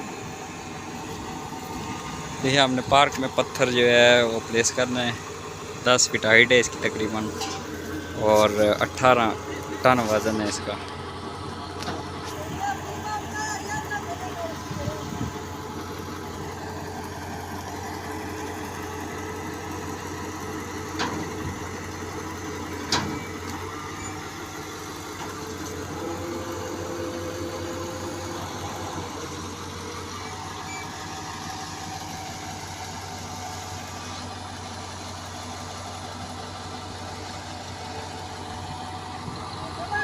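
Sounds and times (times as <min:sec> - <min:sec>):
crane engine idling: 0:00.0 - 0:40.0.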